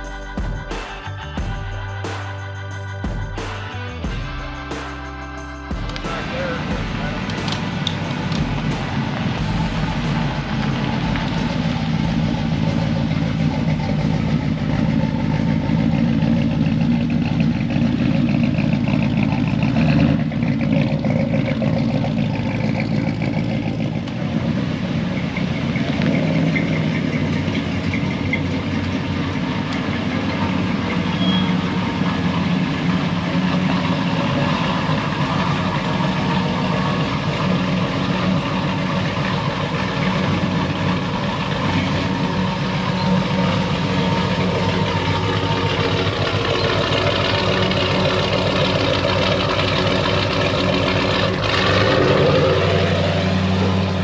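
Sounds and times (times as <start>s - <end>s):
truck engines idling: 0.0s - 54.0s.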